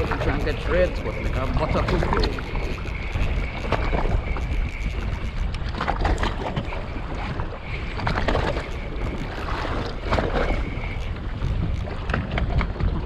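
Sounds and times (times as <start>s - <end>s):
fishing reel cranking: 0.0s - 12.8s
water sloshing against boat: 0.0s - 13.0s
wind buffeting microphone: 0.0s - 13.0s.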